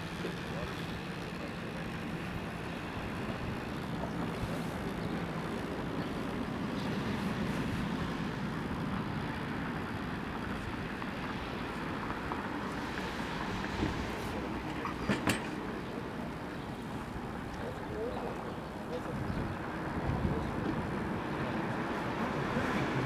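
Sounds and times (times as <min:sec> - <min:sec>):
outdoor low rumble with hiss: 0:00.0 - 0:23.0.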